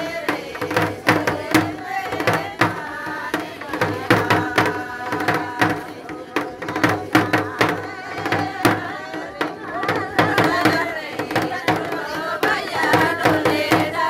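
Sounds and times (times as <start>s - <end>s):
drum beats: 0.0s - 14.0s
voices singing together: 0.0s - 14.0s.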